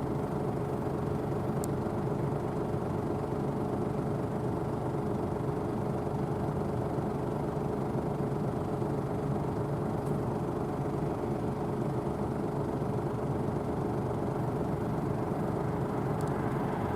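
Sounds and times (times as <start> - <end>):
combine harvester engine drone: 0.0 - 16.9.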